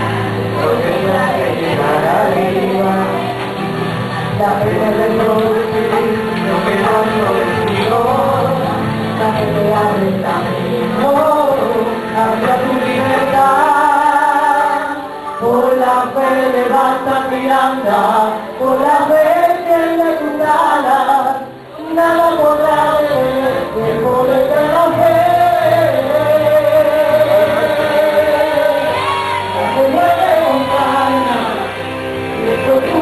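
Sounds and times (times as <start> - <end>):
group singing worship song: 0.0 - 33.0.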